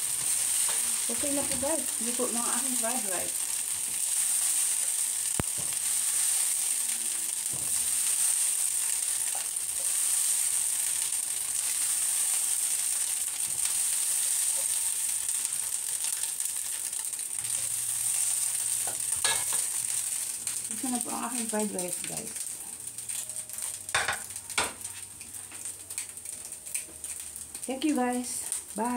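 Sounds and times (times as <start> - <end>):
rice sizzling in a wok: 0.0 - 28.9.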